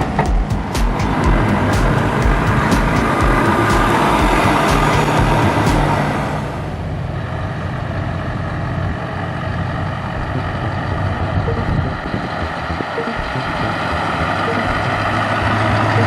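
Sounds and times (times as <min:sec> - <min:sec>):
loud vehicle noise: 0:00.0 - 0:16.0
truck engine running: 0:00.0 - 0:16.0.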